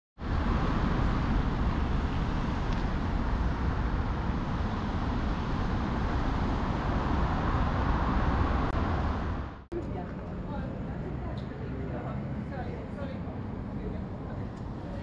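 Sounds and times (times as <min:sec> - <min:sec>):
road traffic rumble: 0:00.2 - 0:15.0.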